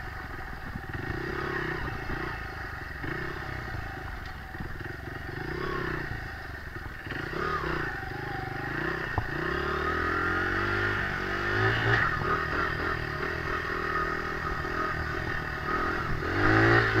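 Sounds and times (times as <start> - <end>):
dirt bike engine revving: 0.2 - 17.0.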